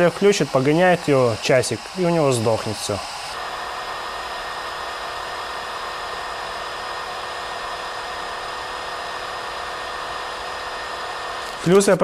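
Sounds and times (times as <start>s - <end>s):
faint steady hum: 0.0s - 11.8s
hot air blower hissing: 0.0s - 12.0s.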